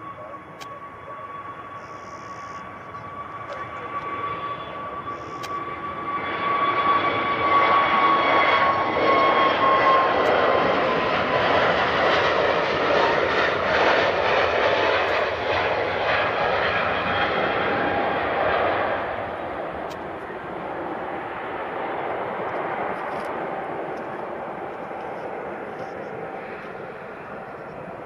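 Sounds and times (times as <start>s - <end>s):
jet airliner taking off: 0.0s - 28.0s.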